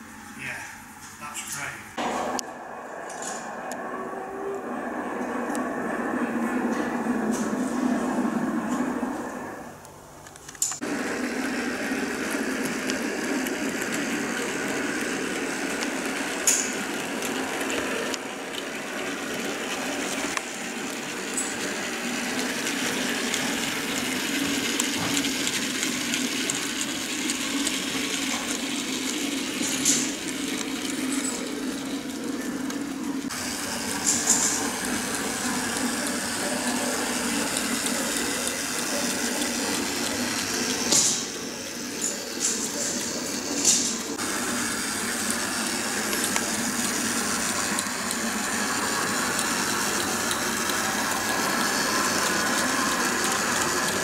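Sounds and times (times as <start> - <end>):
model train rumbling whirr: 0.0 - 54.0.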